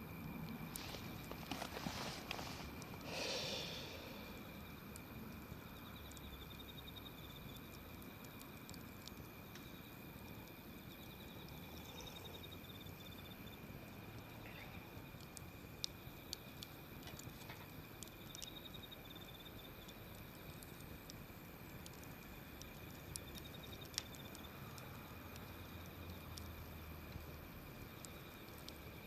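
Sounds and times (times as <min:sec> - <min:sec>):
campfire burning with hiss: 0:00.0 - 0:29.0.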